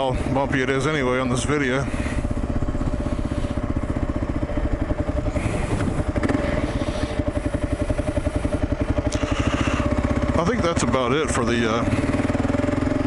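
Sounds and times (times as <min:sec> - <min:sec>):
motorcycle engine running: 0:00.0 - 0:13.0
motorcycle rattling over ruts: 0:00.0 - 0:13.0.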